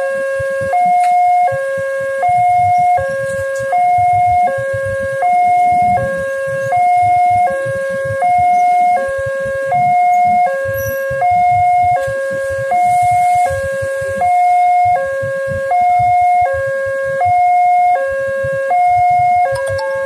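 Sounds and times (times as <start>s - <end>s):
level crossing two-tone alarm: 0.0s - 20.0s.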